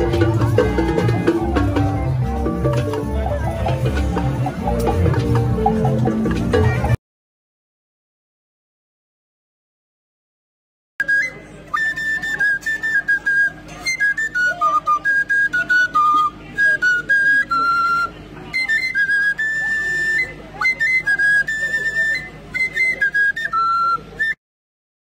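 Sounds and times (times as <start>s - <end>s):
high flute melody: 0.0s - 7.0s, 11.0s - 24.4s.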